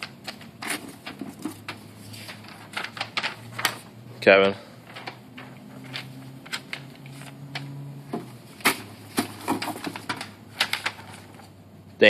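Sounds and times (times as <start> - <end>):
paper rustling: 0.0 - 11.6.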